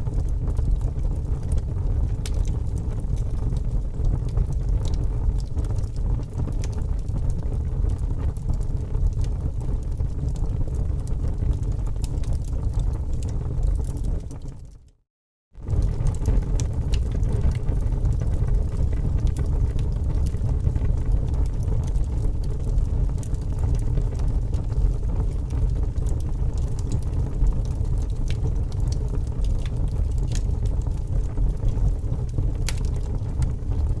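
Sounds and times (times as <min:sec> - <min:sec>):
logs crackling and popping: 0:00.0 - 0:14.6, 0:15.6 - 0:34.0
fire roaring in fireplace: 0:00.0 - 0:14.7, 0:15.6 - 0:34.0.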